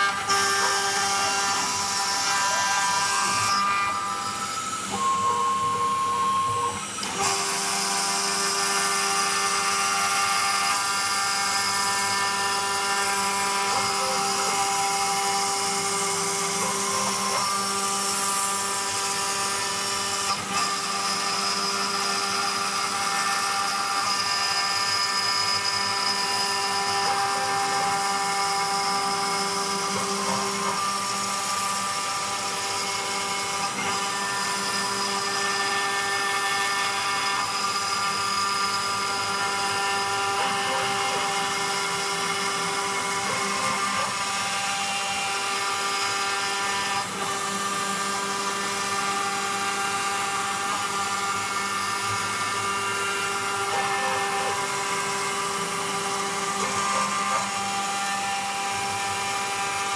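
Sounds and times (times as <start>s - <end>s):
end mill cutting wood: 0.0s - 59.9s
router spindle whine: 0.0s - 59.9s.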